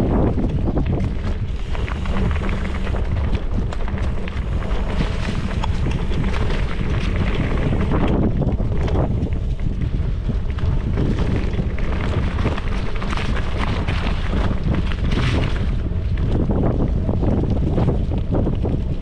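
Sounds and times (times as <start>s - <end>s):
bike rattling with clicks and knocks: 0.0s - 19.0s
bike tyres crunching over dirt trail: 0.0s - 19.0s
wind rumble on microphone: 0.0s - 19.0s.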